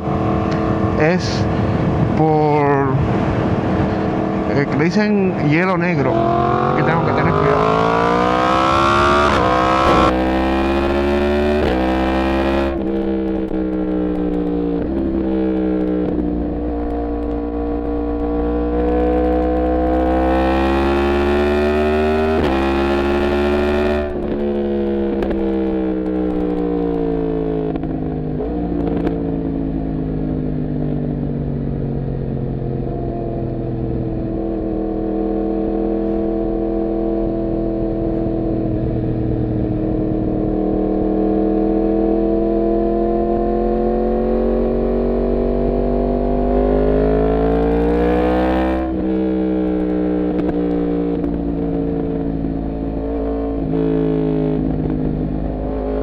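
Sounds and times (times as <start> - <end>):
motorcycle engine running: 2.7 - 56.0.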